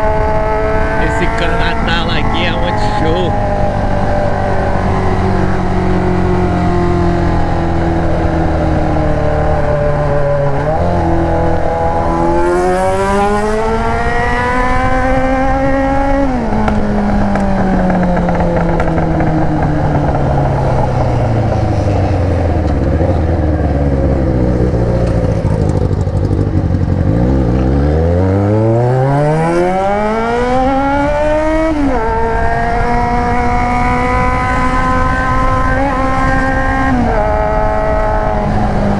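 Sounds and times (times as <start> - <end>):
motorcycle engine revving: 3.3 - 38.9.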